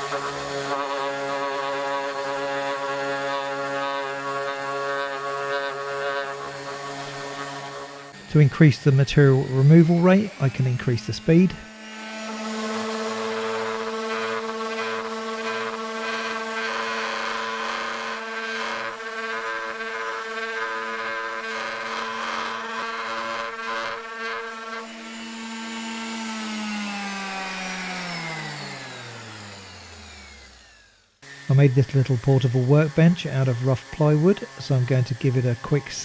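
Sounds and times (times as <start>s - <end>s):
orbital sander motor whine: 0.0s - 36.0s
sander scrubbing: 0.0s - 36.0s.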